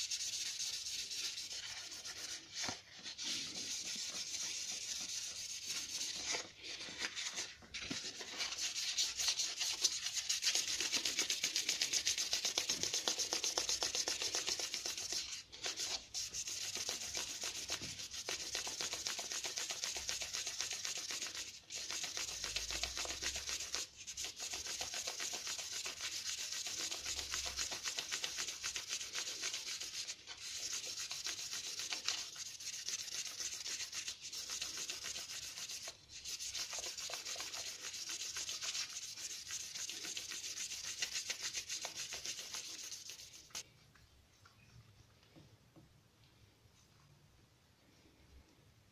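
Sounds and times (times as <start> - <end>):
sandpaper rasping on stone: 0.0 - 6.5, 8.1 - 43.6.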